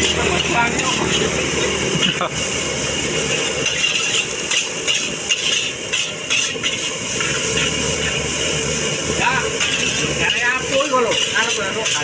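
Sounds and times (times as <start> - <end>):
metal spatula scraping a wok: 0.0 - 2.2, 2.8 - 12.0
wok burner rushing: 0.0 - 12.0.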